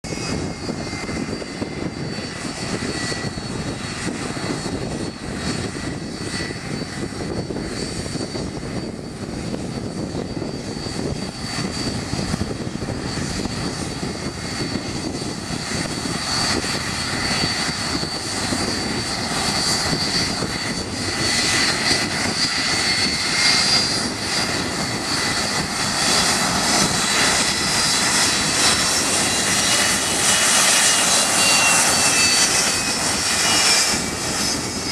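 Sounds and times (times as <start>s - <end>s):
jet engines whining: 0.0s - 34.9s.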